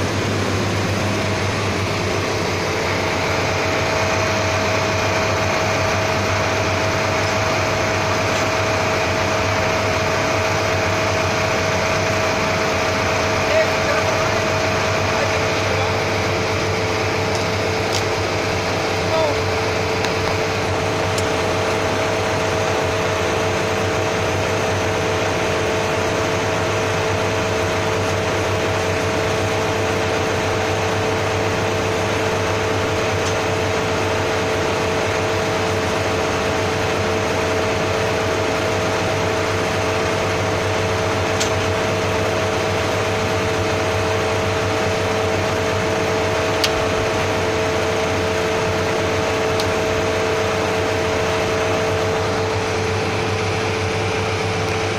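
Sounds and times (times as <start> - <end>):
machinery humming and whirring: 0.0 - 54.9.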